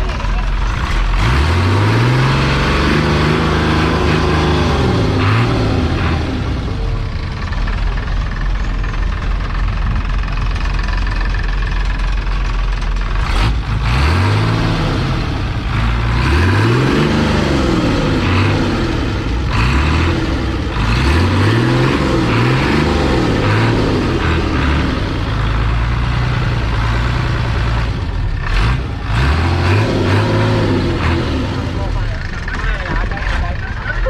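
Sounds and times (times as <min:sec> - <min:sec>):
boat engine revving: 0:00.0 - 0:09.0, 0:13.0 - 0:34.0
wind: 0:00.0 - 0:34.0.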